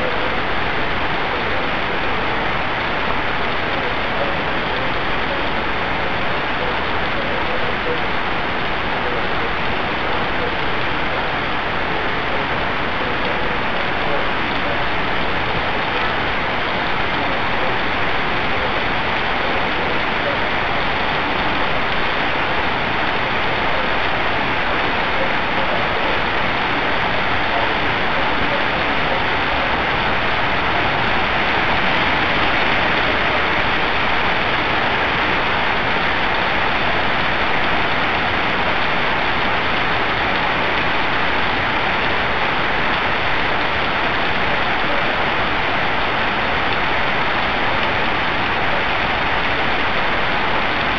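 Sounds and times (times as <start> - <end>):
heavy rain on street: 0.0 - 50.9.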